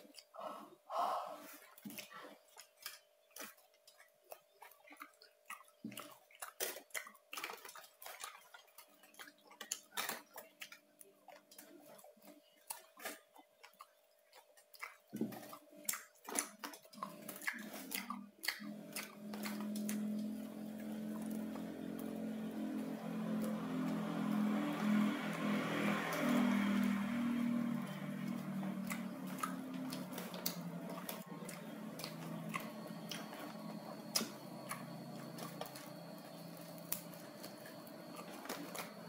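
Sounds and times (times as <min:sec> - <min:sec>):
crunchy chewing: 0:01.4 - 0:39.0.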